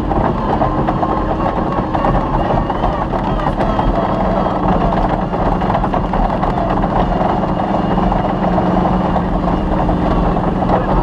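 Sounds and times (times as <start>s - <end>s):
rally car engine running: 0.0s - 11.0s
rough driving noise: 0.0s - 11.0s.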